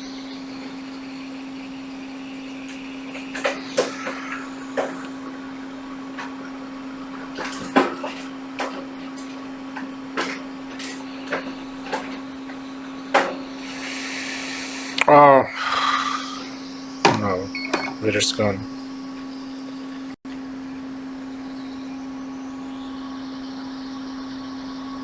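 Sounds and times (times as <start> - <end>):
hot-air station humming: 0.0 - 25.0.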